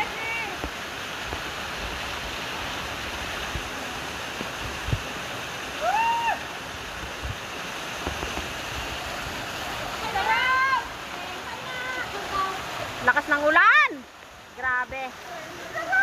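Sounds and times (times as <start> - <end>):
heavy rain: 0.0 - 16.0
waterfall pouring onto rocks: 0.0 - 16.0.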